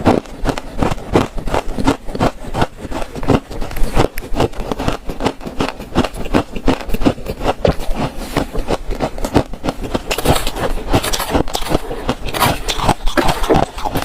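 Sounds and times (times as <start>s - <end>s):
crunching and chewing frost: 0.0s - 14.0s.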